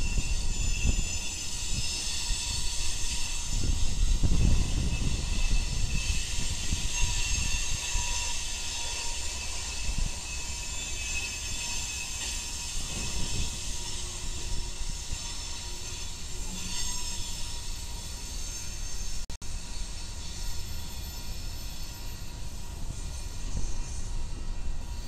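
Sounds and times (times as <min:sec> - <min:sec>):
high wheel squeals: 0:00.0 - 0:25.0
low train rumble: 0:00.0 - 0:25.0.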